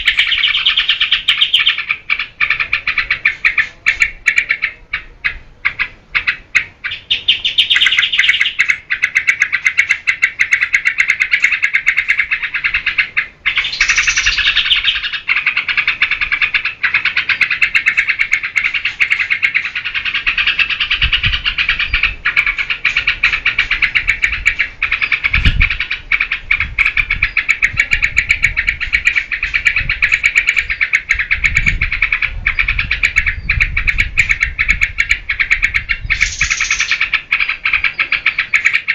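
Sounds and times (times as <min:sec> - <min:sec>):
bird singing fast notes: 0:00.0 - 0:38.9.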